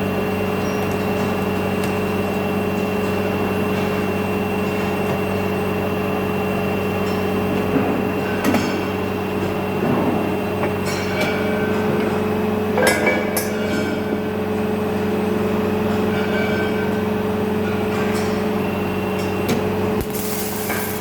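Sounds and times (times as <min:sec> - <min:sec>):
industrial machinery humming: 0:00.0 - 0:21.0.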